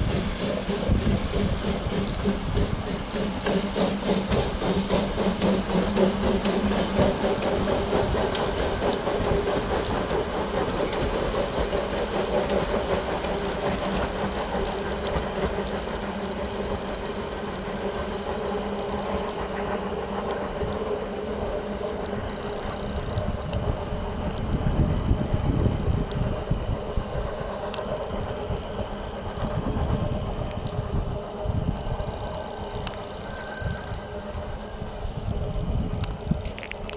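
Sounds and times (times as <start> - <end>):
hiss of steam: 0.0 - 36.6
wheels clattering on rails: 0.0 - 36.9.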